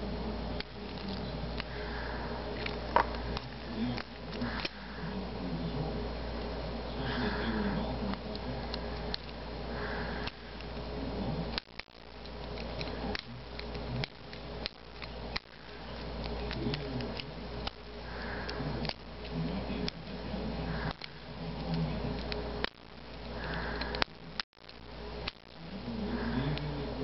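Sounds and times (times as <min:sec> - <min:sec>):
steady hiss and hum: 0:00.0 - 0:27.0.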